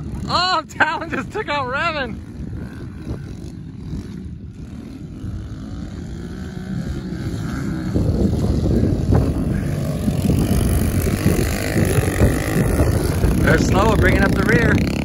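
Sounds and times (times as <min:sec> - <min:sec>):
small motorbike engines revving: 0:00.0 - 0:15.0.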